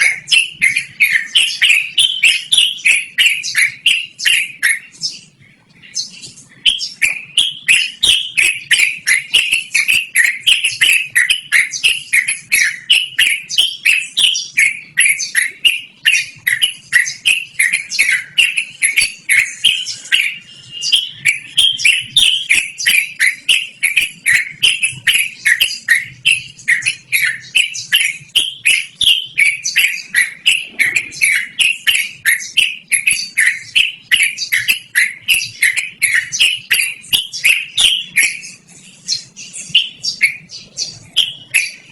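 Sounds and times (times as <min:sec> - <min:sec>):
bulbul singing chirps: 0:00.0 - 0:41.9.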